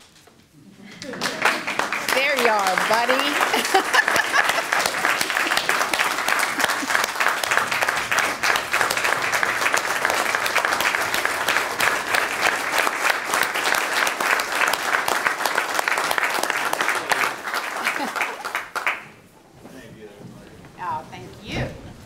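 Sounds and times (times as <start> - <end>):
audience applauding: 0.9 - 19.3.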